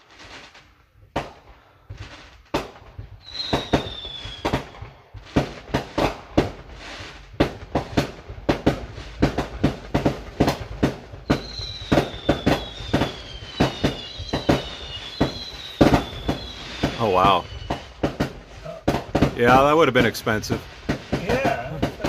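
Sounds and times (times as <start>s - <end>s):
fireworks banging: 0.0s - 22.0s
whistling fireworks: 0.0s - 22.0s.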